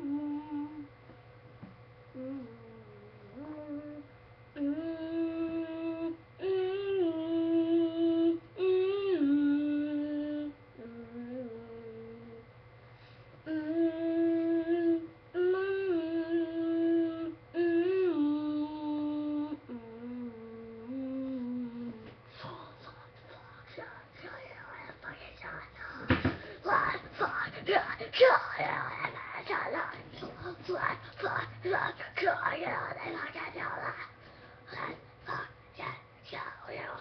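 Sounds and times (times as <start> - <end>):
person humming: 0.0 - 1.0, 2.1 - 12.5, 13.4 - 37.0.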